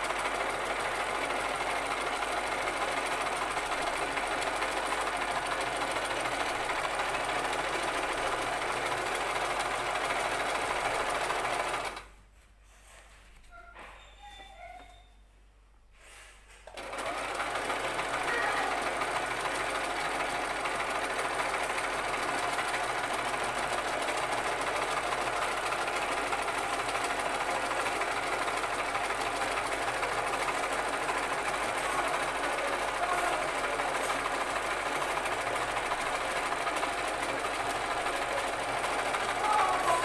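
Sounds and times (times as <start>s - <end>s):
sewing machine running: 0.0s - 12.1s, 16.7s - 40.0s.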